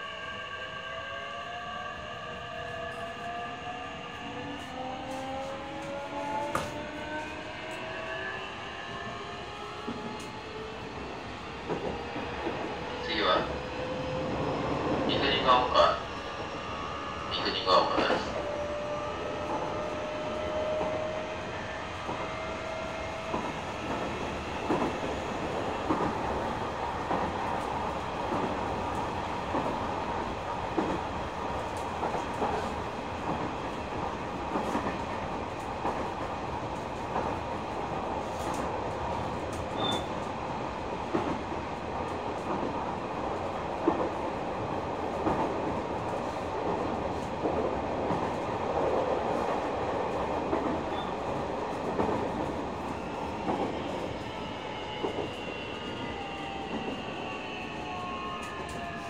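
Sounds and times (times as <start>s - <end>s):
electric train rumbling: 0.0s - 59.0s.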